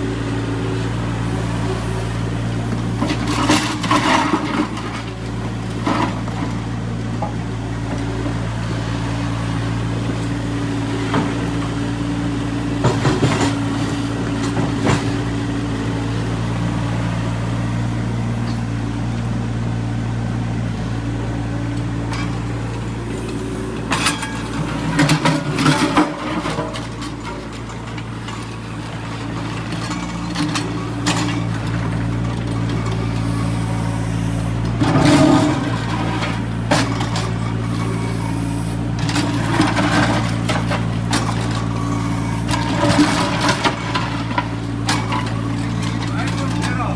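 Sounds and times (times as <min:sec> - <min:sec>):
excavator engine humming: 0:00.0 - 0:46.9.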